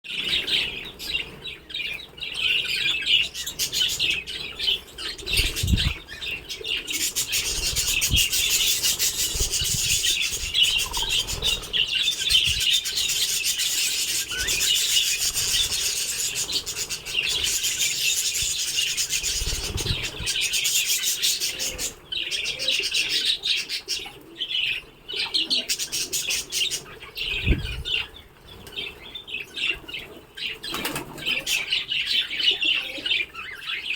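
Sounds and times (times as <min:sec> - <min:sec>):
budgerigars chattering: 0:00.1 - 0:28.2.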